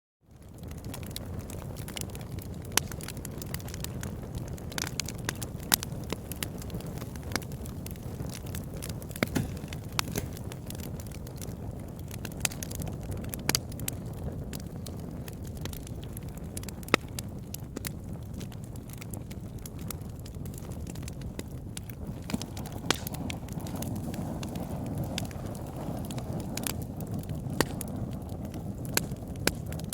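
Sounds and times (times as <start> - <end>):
fire pops and snaps: 0.3 - 29.9
wood fire crackling: 0.3 - 29.9.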